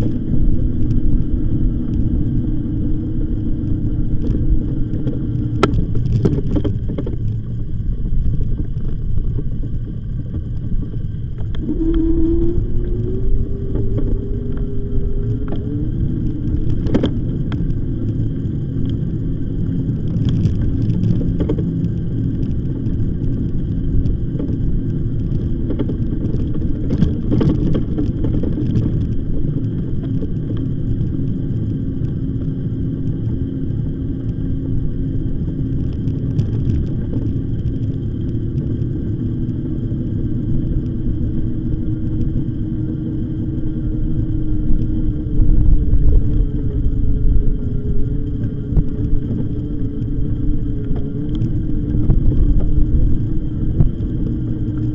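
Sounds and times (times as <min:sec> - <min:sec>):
electric motor hum: 0:00.0 - 0:54.9
low rumble: 0:00.0 - 0:54.9
tyre and wind noise: 0:00.0 - 0:54.9.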